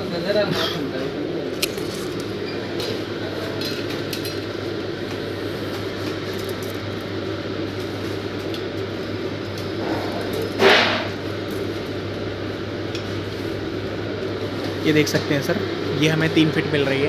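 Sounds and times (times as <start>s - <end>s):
constant low hum: 0.0s - 17.0s.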